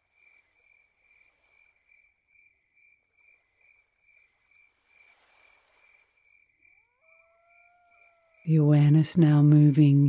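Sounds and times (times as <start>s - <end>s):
insect chirping: 0.0s - 8.5s.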